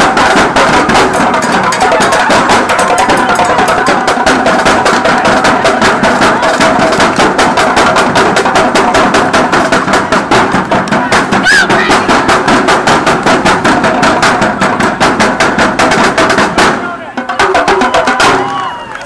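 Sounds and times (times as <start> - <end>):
bucket drum strikes: 0.0 - 18.8
drumline playing fast beat: 0.0 - 19.0.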